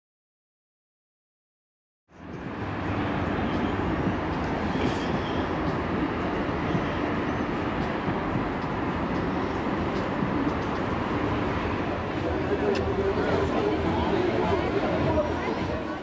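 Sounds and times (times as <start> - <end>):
city traffic noise: 2.1 - 16.0.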